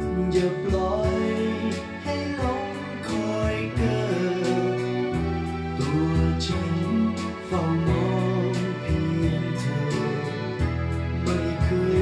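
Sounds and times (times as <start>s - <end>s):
instrumental pop ballad: 0.0s - 12.0s.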